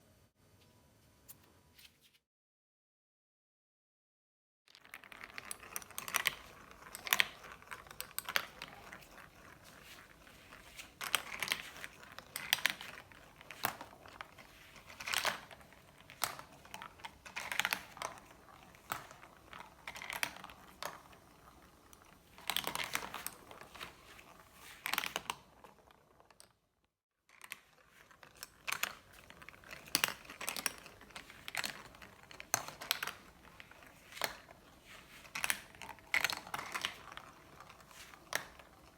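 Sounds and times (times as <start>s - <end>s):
marbles clattering down track: 4.7s - 26.5s, 27.3s - 38.9s.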